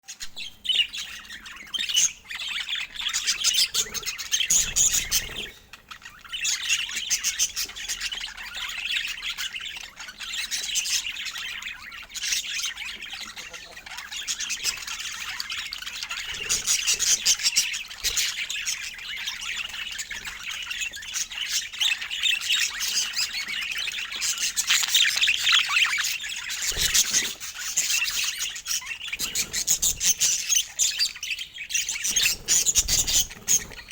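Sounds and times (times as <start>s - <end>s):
budgerigars chattering and warbling: 0.1s - 33.9s.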